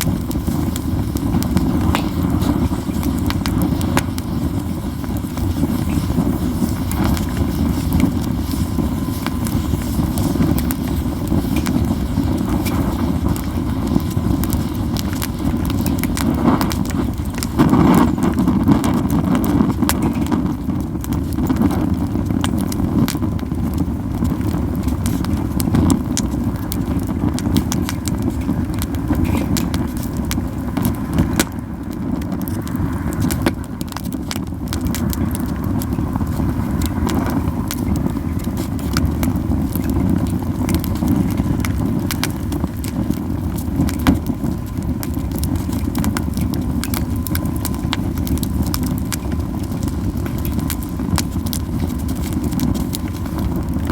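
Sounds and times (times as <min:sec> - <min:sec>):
campfire crackling: 0:00.0 - 0:53.9.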